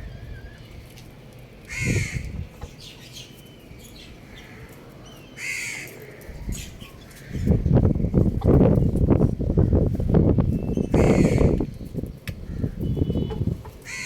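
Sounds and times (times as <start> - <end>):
harsh bird calls: 1.7 - 14.0.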